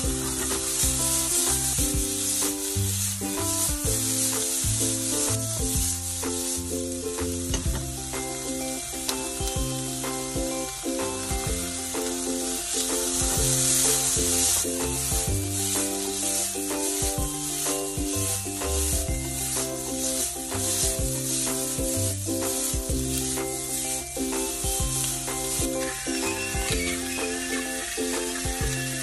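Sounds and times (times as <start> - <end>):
spatula scraping a pan: 0.0 - 9.1, 9.8 - 29.0
background music: 0.0 - 29.0
food sizzling in a frying pan: 0.0 - 29.0.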